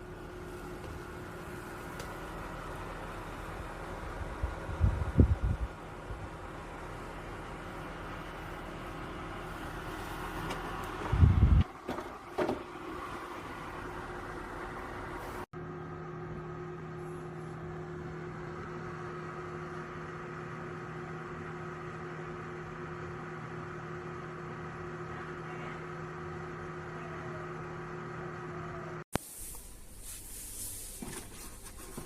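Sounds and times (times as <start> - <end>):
dehumidifier humming: 0.0 - 32.0.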